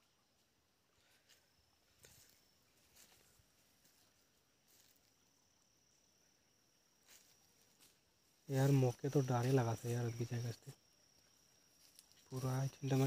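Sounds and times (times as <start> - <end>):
high-pitched insect buzz: 0.2 - 13.0.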